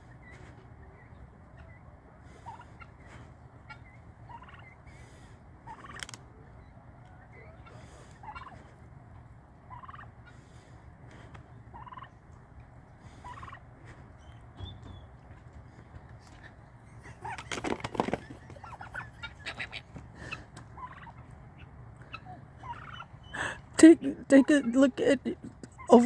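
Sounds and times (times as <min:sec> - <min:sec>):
turkey gobbling: 0:00.2 - 0:10.7, 0:11.3 - 0:15.5, 0:16.3 - 0:23.8.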